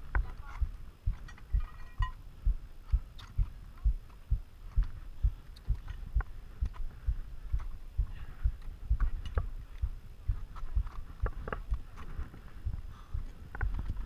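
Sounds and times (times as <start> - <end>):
dull low thumps: 0.0 - 14.0.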